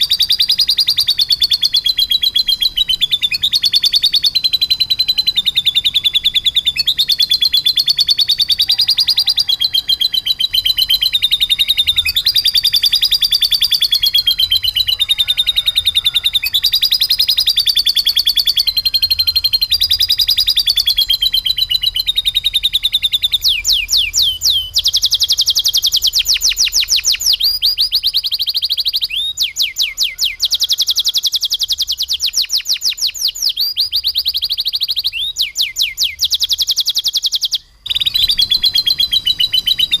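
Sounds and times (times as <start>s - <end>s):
canary singing fast trills: 0.0s - 40.0s.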